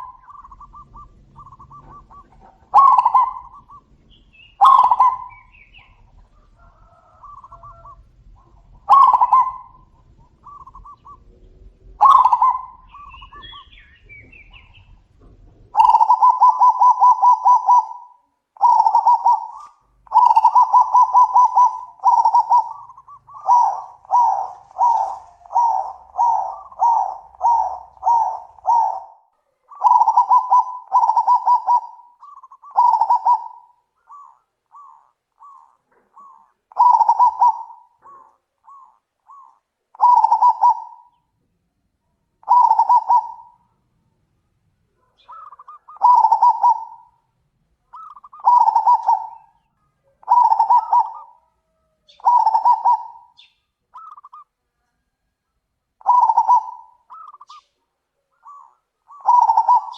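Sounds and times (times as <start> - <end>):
doves cooing: 0.0 - 41.3, 42.4 - 43.9, 44.9 - 55.3, 55.9 - 59.9.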